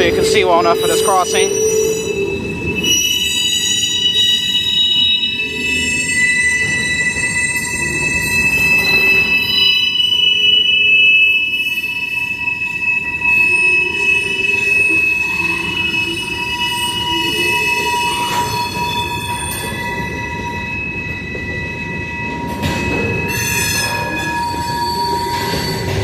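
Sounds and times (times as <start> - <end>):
rumble of rolling rail cars: 0.0 - 26.0
train wheels squealing on track: 0.0 - 26.0.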